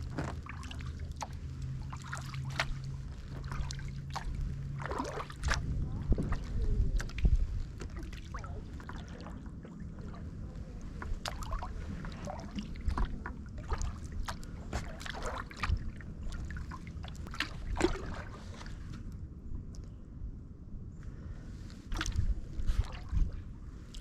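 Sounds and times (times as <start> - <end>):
paddle dipping into water: 0.0 - 19.1, 21.6 - 24.0
small splashes and drips: 0.0 - 19.1, 21.6 - 24.0.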